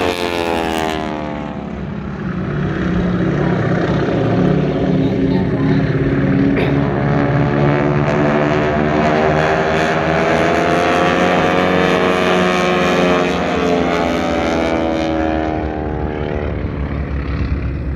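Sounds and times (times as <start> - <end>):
propeller planes droning overhead: 0.0 - 17.9.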